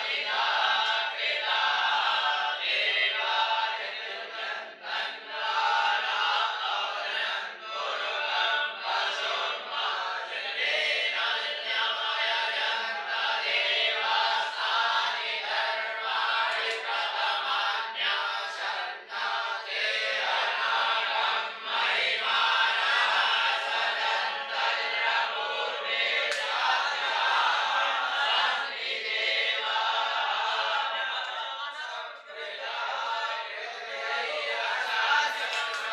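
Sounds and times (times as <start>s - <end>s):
group chanting in unison: 0.0s - 35.9s.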